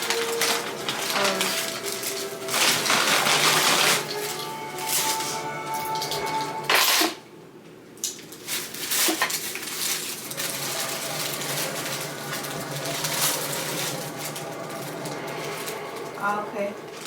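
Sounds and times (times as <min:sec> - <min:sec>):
food packaging crinkling: 0:00.0 - 0:07.1, 0:08.0 - 0:16.2, 0:16.8 - 0:17.0.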